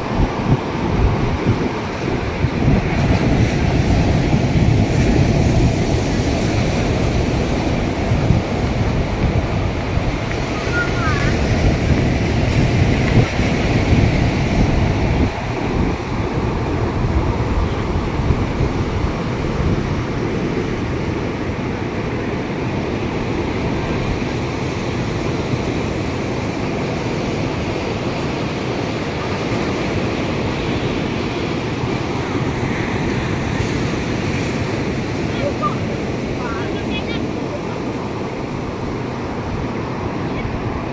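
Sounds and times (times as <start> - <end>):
ocean surf breaking on shore: 0.0 - 40.9.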